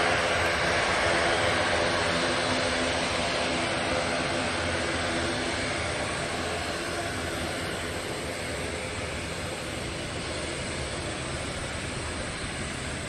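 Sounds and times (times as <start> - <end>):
airliner engines rushing: 0.0 - 13.0.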